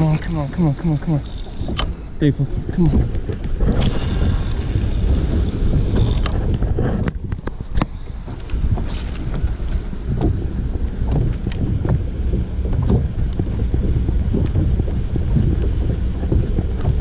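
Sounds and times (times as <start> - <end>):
sharp clicks and knocks: 0.0 - 17.0
water lapping against boat hull: 0.0 - 17.0
wind buffeting microphone: 0.0 - 17.0.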